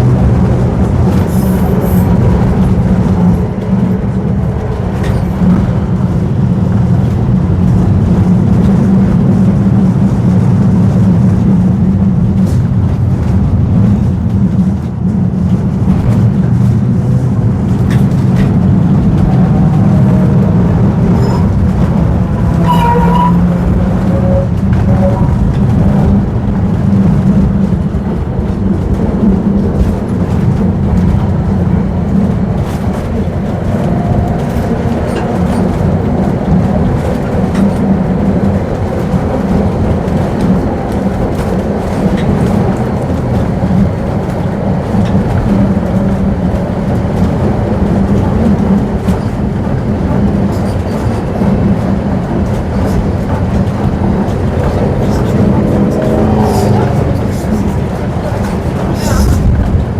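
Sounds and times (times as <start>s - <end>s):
tram squeaks: 0.0s - 8.8s, 17.5s - 59.9s
tram rumbling on rails: 0.0s - 59.9s.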